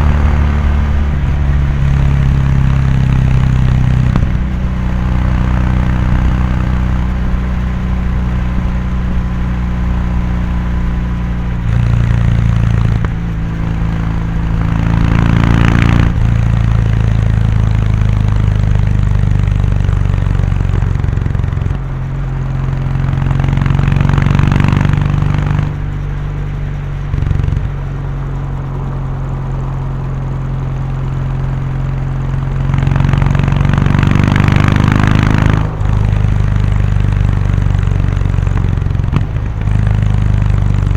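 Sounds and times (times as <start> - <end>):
motorcycle twin exhaust at road speed: 0.0 - 40.9.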